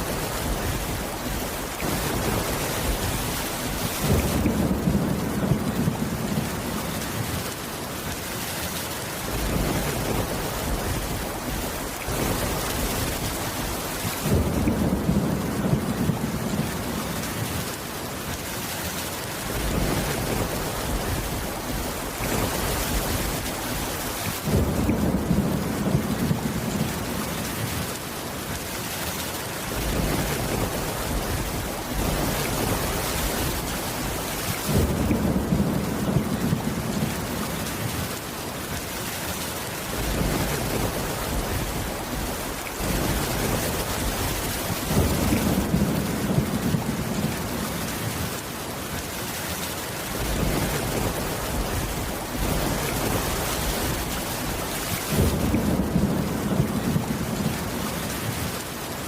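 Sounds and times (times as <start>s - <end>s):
thunder rumbling: 0.0s - 7.6s, 9.2s - 17.8s, 19.4s - 28.0s, 29.7s - 38.2s, 39.9s - 48.4s, 50.1s - 58.9s
rain on a roof: 0.0s - 59.0s.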